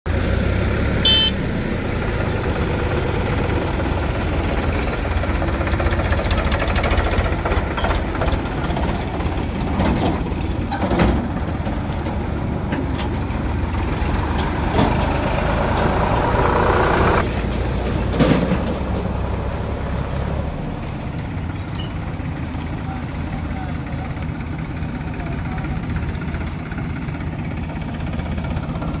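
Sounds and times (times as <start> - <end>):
tractor diesel engine rumbling: 0.1 - 29.0.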